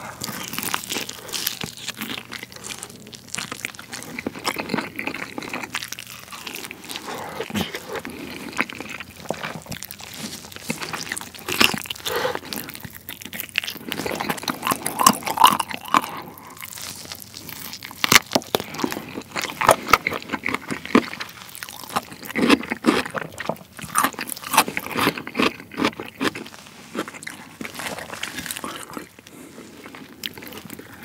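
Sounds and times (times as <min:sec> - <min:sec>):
crunching fried chicken: 0:00.0 - 0:31.0
wet chewing: 0:00.0 - 0:31.0.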